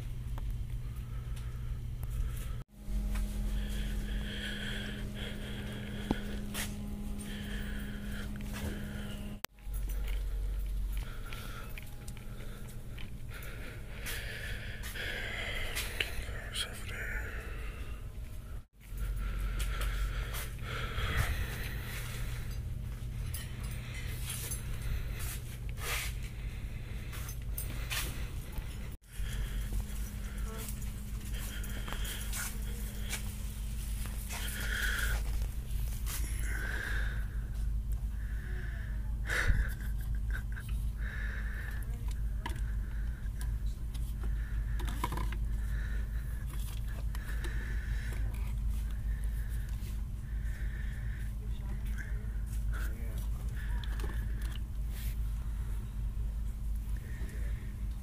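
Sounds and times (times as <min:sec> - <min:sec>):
low hum of store interior: 0:00.0 - 0:58.0.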